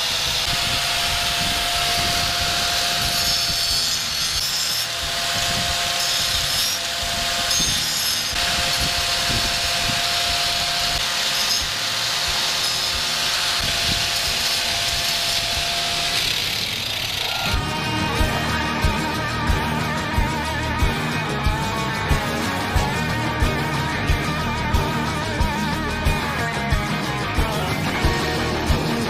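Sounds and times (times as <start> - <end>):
angle grinder grinding stone: 0.0 - 29.0.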